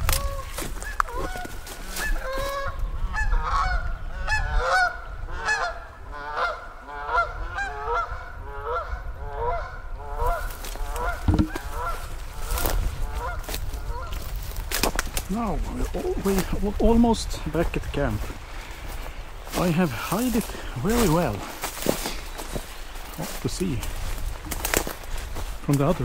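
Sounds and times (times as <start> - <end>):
geese honking: 0.1 - 14.5, 15.4 - 26.0.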